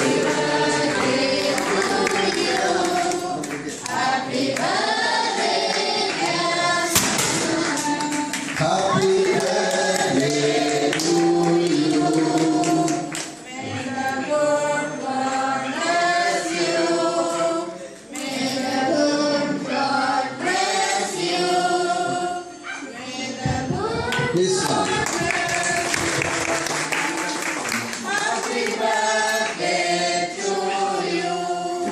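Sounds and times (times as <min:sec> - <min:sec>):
group of people singing: 0:00.0 - 0:31.9.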